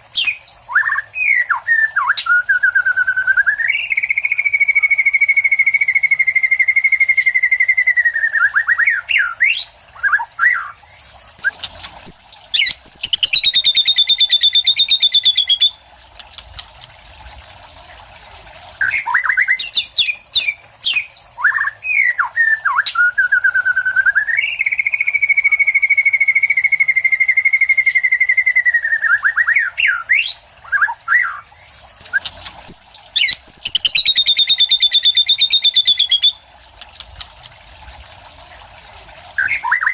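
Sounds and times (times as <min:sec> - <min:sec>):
bird singing trills and whistles: 0:00.1 - 0:15.8, 0:18.8 - 0:36.4, 0:39.4 - 0:39.9.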